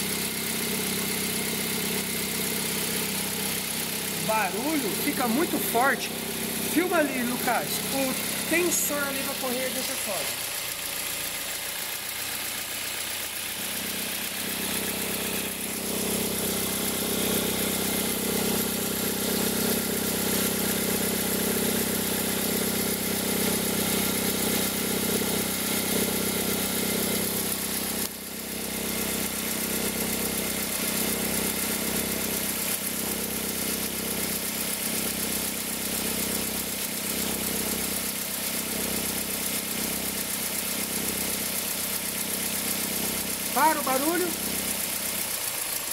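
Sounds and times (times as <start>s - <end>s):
car engine idling: 0.0s - 45.9s
steady mechanical noise: 0.0s - 45.9s.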